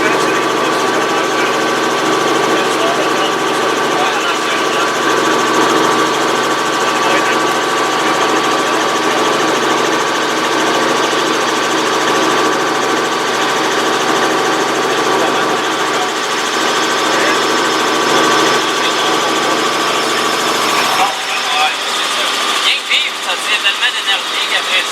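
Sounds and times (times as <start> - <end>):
helicopter engine and rotor drone: 0.0 - 24.9
high-pitched whine: 0.0 - 24.9.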